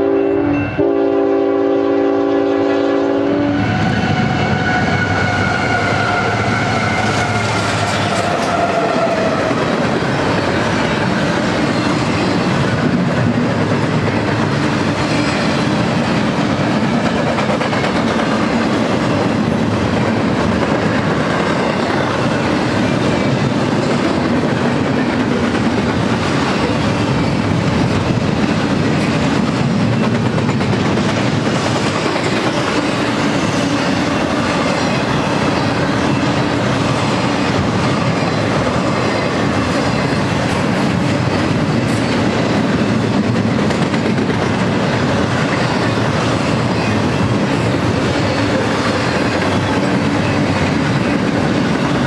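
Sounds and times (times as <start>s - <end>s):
train wheels rolling on rails: 0.8s - 52.0s.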